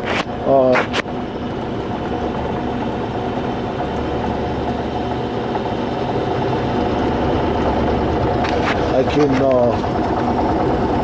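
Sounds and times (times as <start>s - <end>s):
milling machine cutting iron: 0.0s - 11.0s
motor hum: 0.0s - 11.0s.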